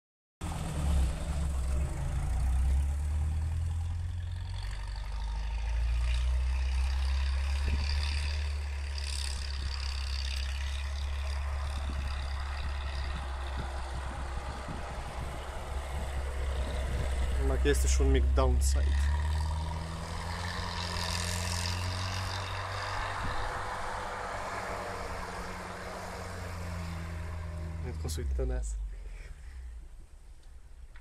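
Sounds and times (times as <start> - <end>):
off-road vehicle engine rumble: 0.4 - 31.0.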